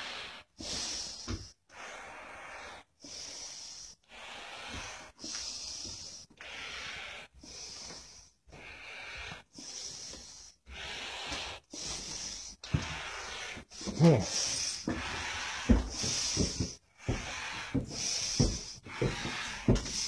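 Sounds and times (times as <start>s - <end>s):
person breathing heavily: 0.0s - 20.0s.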